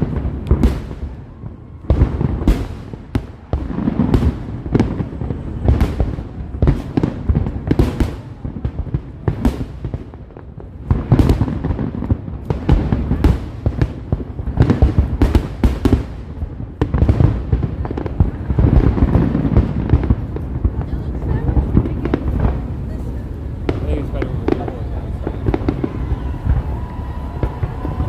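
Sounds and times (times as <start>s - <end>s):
fireworks booming and cracking: 0.0s - 28.0s.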